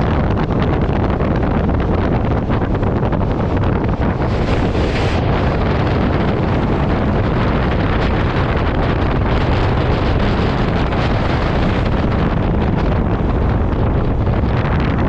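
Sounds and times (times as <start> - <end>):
loud steady rumbling: 0.0 - 15.0
wind buffeting microphone: 0.0 - 15.0.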